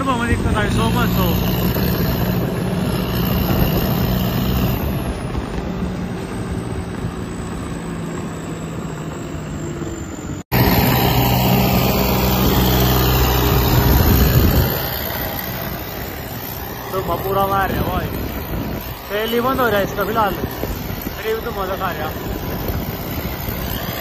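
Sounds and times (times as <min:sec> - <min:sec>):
road and wind noise: 0:00.0 - 0:24.0
tractor diesel engine running: 0:00.0 - 0:24.0.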